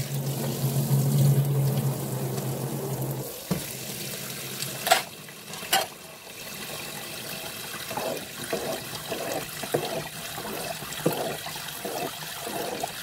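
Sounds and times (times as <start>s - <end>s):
tap water running into sink: 0.0s - 13.0s
water running into bowl: 0.0s - 13.0s.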